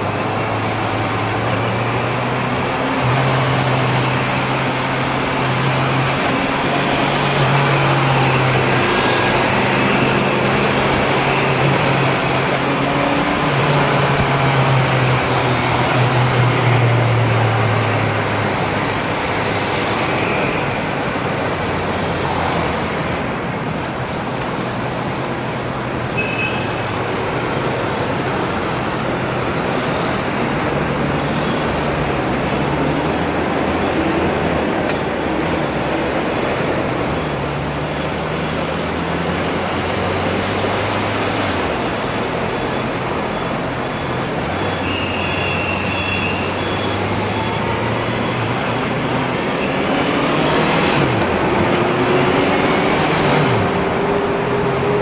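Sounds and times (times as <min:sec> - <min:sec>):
surrounding traffic: 0:00.0 - 0:55.0.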